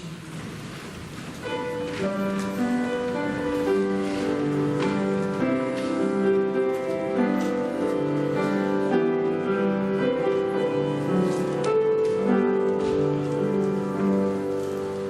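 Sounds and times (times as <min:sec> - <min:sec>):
keyboard playing slow chords: 0:01.5 - 0:15.0.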